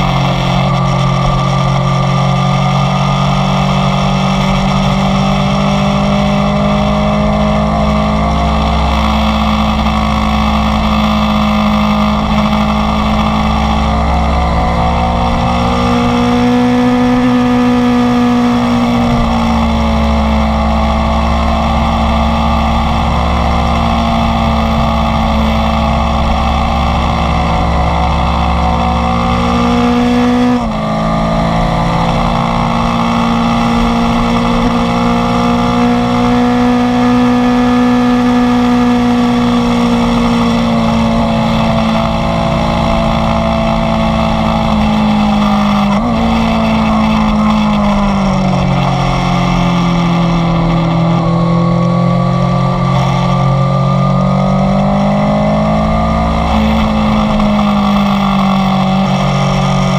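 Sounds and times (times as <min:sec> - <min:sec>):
motorcycle engine pulling at speed: 0:00.0 - 0:59.9.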